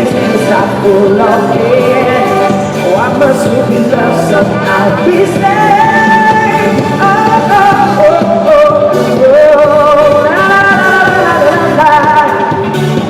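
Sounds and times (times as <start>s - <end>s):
pop backing track: 0.0s - 13.0s.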